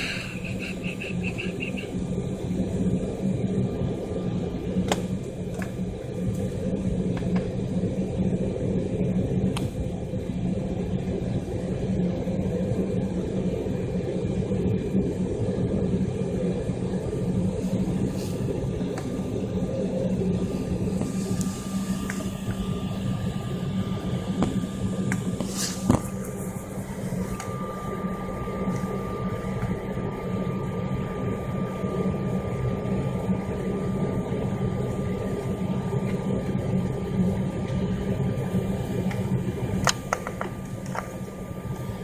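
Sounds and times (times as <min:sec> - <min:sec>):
airliner cabin drone: 0:00.0 - 0:42.0
faint steady whine: 0:00.0 - 0:42.0.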